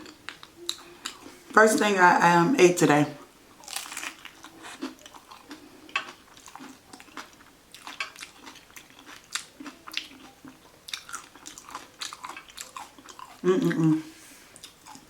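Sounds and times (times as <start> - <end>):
person chewing crunchy food: 0.0 - 1.5, 3.6 - 13.9, 14.5 - 15.0.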